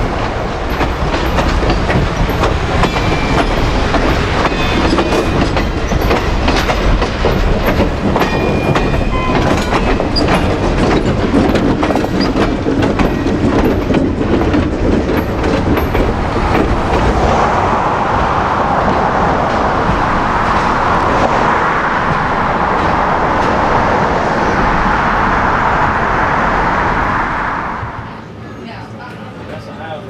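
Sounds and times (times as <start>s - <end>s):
train wheels clickety-clack: 0.0s - 27.3s
steady rushing noise: 0.0s - 28.5s.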